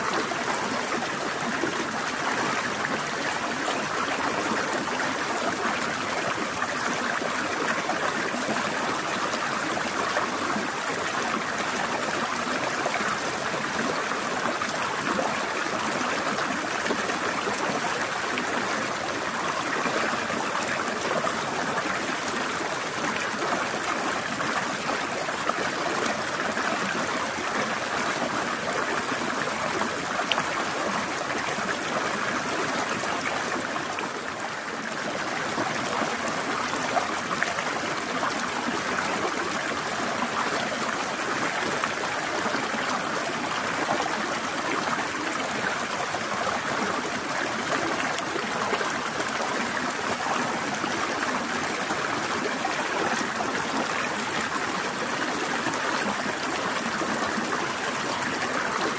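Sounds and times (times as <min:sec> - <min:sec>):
stream trickling over rocks: 0:00.0 - 0:58.9.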